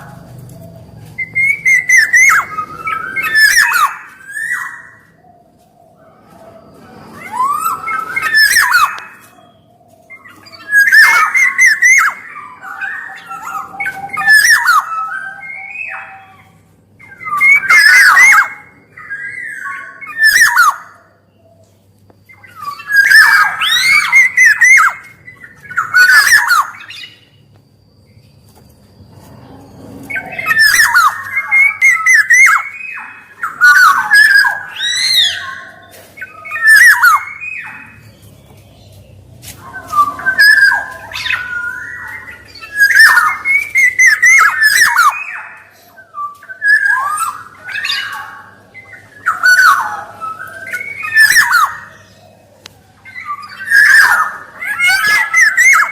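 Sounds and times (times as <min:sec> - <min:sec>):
oriole calling: 0:00.0 - 0:55.9.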